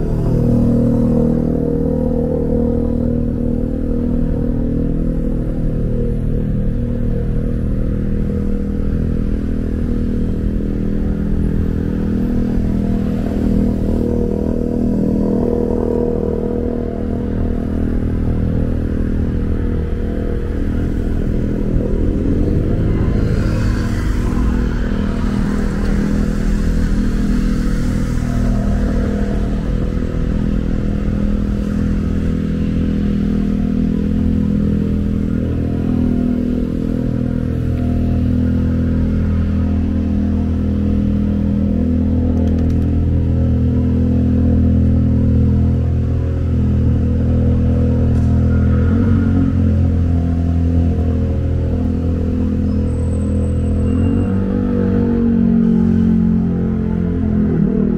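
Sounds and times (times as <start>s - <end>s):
low rumble of traffic: 0.0s - 57.9s.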